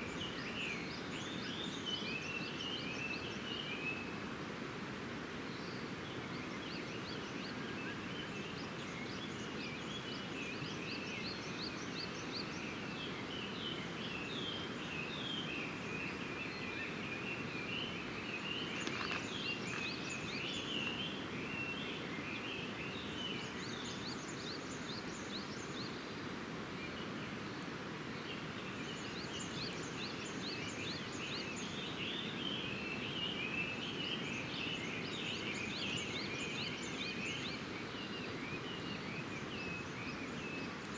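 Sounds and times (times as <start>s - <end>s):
small birds chirping: 5.6s - 40.9s.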